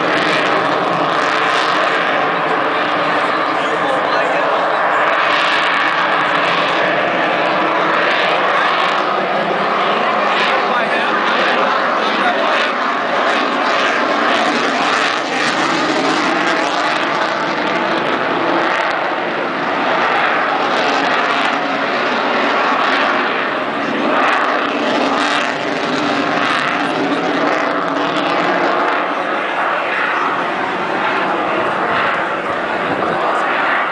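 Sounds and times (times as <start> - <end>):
fighter jet noise overhead: 0.0 - 33.9.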